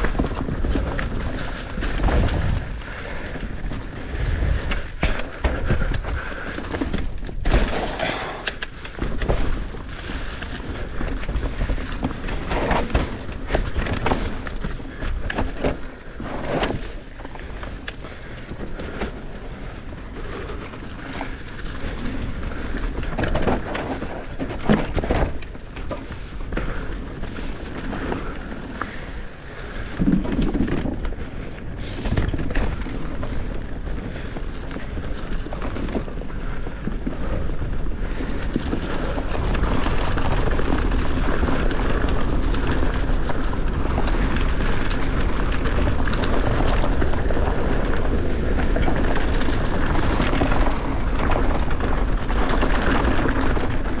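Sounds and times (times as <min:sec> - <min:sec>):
bike rattling and knocking: 0:00.0 - 0:54.0
tyres rolling over dirt and leaves: 0:00.0 - 0:54.0.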